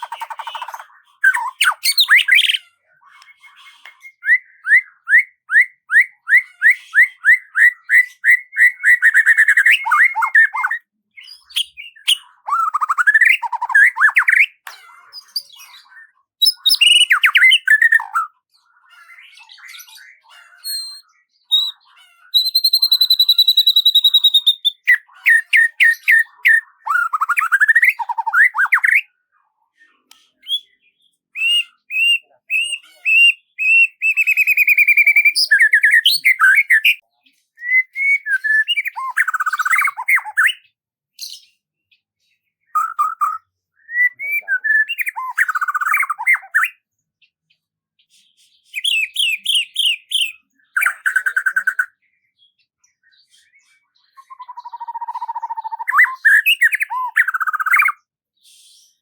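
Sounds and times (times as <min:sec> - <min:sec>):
songbird singing: 0:00.0 - 0:29.2, 0:29.8 - 0:47.7, 0:48.5 - 0:58.2.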